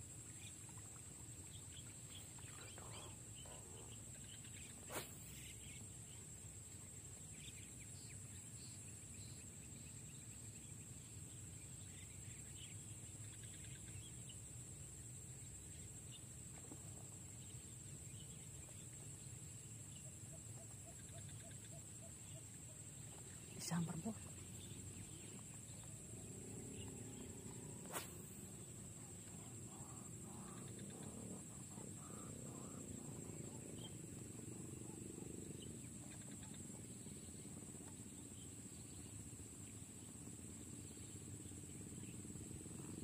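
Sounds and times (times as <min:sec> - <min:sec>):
insect drone: 0:00.0 - 0:43.0
faint bird chirps: 0:00.2 - 0:14.6, 0:15.4 - 0:43.0.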